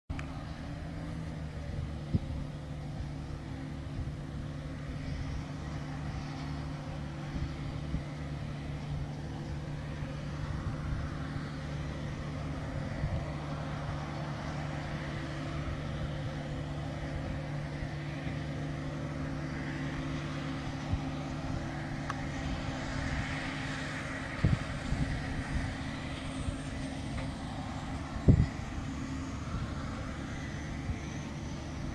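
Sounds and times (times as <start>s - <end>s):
tractor diesel engine running: 0.1s - 31.9s.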